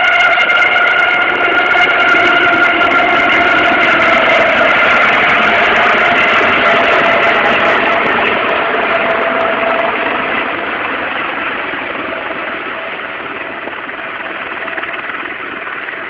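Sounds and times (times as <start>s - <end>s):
helicopter engine and rotor: 0.0s - 16.0s.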